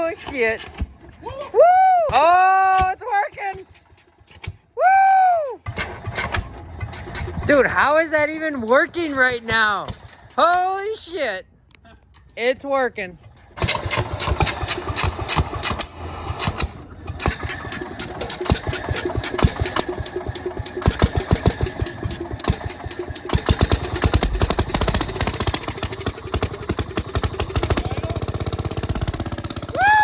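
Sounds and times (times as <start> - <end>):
garden tractor engine running: 0.0 - 1.5, 2.1 - 4.3, 5.6 - 11.3, 13.0 - 30.0.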